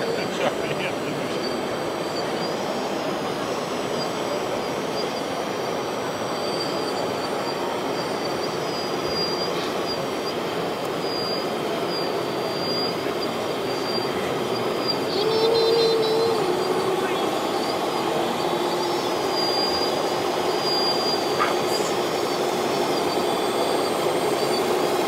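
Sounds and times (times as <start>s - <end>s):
hall noise: 0.0s - 25.0s
high whine of model trucks: 0.0s - 25.0s.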